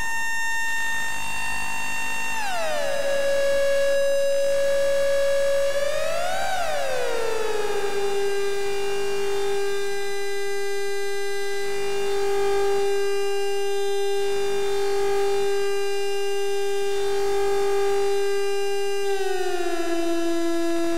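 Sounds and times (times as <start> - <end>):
siren-like synth tone: 0.0 - 20.9.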